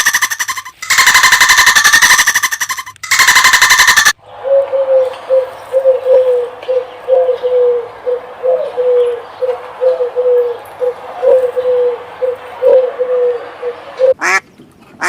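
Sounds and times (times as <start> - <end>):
bird calling in hollow notes: 0.0 - 14.4.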